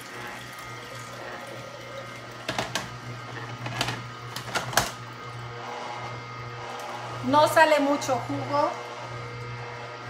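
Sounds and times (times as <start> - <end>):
juicer motor hum: 0.0 - 10.0.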